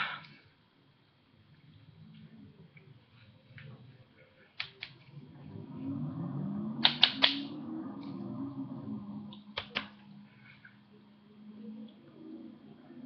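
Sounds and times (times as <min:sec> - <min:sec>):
faint low murmur: 0:00.0 - 0:06.8, 0:07.6 - 0:13.0.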